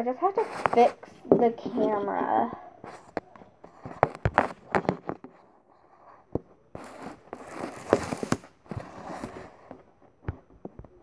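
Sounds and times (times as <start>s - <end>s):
rustling scrapes with knocks: 0.2s - 11.0s.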